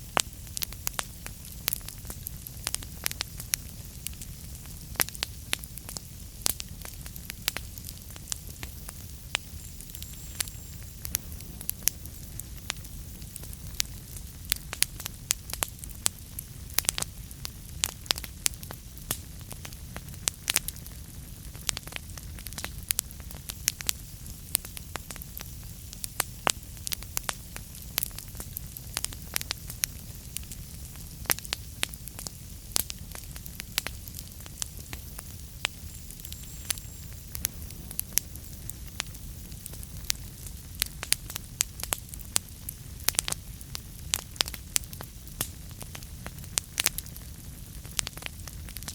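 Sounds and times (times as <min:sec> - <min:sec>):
low rumble of flames: 0:00.0 - 0:48.9
wood fire popping and crackling: 0:00.0 - 0:48.9.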